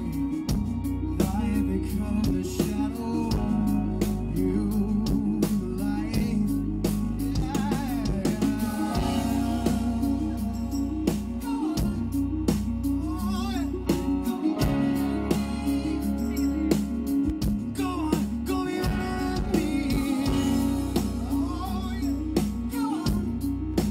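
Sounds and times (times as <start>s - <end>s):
bass: 0.0s - 23.9s
drum kit beat: 0.0s - 23.9s
electric guitar: 0.0s - 23.9s
man singing: 0.0s - 23.9s.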